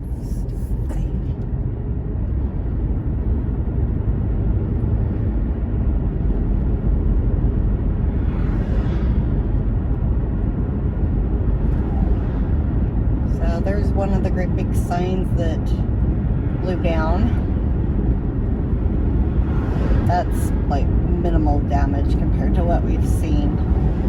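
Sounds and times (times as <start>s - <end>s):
car rumble inside cabin: 0.0s - 24.0s.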